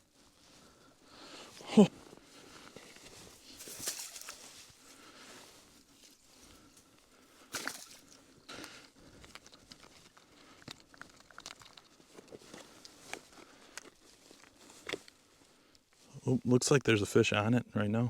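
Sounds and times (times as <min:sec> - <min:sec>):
rustling and crunching: 0:01.5 - 0:16.1.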